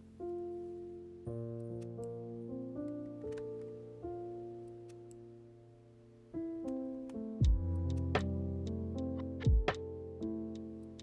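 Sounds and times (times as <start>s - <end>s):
soft piano chord: 0.0s - 11.0s.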